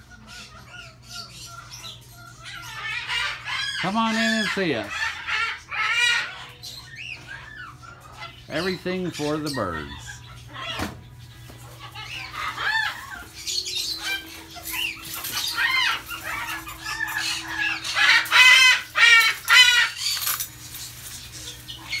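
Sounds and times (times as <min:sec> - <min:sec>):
parrots squawking: 0:00.0 - 0:22.0
steady low hum: 0:00.0 - 0:22.0.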